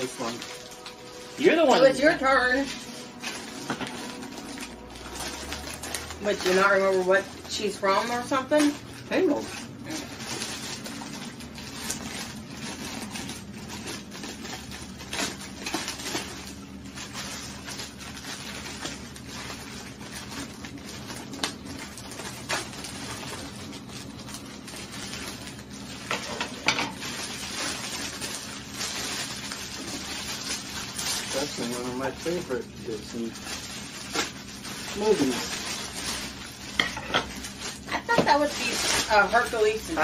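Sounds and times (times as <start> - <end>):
plastic wrapping crinkling: 0.0 - 40.0.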